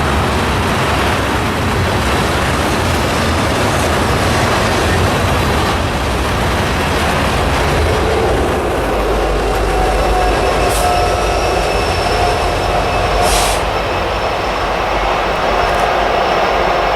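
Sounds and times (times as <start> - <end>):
freight train rolling past: 0.0 - 16.9.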